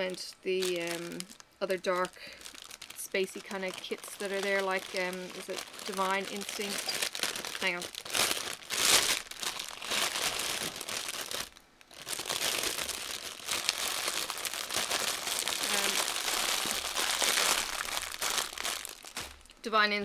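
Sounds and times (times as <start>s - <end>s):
plastic packaging crinkling: 0.0s - 19.6s.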